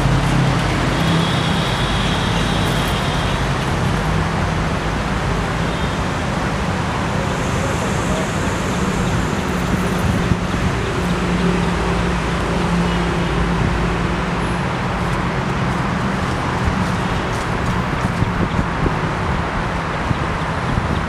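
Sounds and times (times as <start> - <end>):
road traffic rumble and hiss: 0.0 - 21.0.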